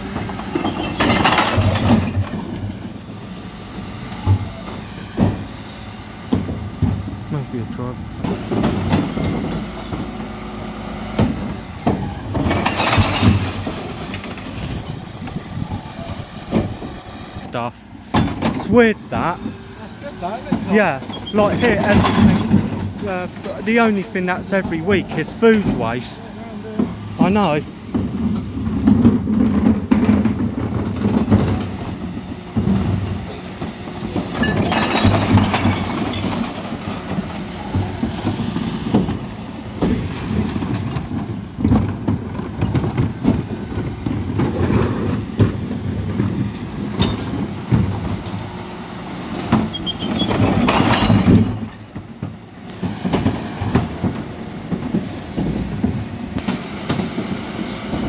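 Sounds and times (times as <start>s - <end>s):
bins rattling and clattering: 0.0s - 3.1s, 8.2s - 10.2s, 11.2s - 16.9s, 17.6s - 48.6s, 49.4s - 58.0s
lorry mechanical rumble: 0.0s - 58.0s.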